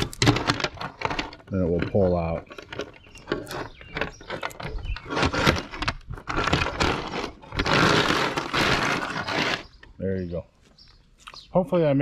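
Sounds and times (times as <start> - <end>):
chain scraping across tabletop: 0.0 - 9.8.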